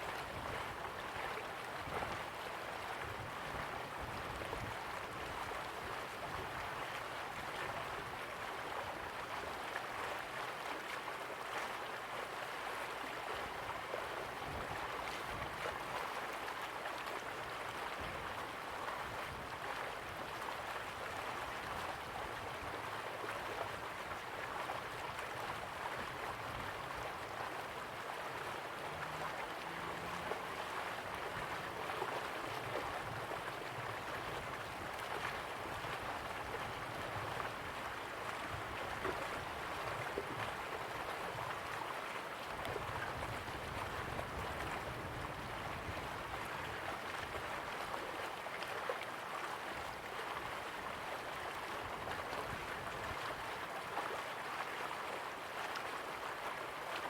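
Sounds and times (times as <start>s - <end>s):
river water rushing: 4.8s - 57.0s.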